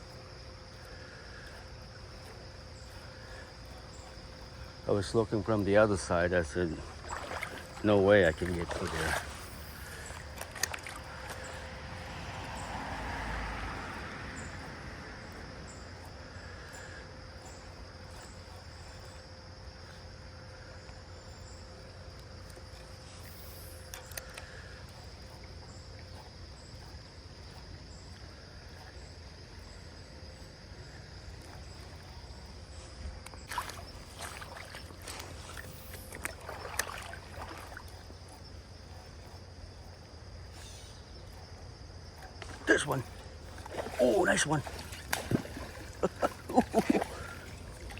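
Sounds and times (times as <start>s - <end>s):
creek water running: 0.0s - 47.9s
insect drone: 0.0s - 47.9s.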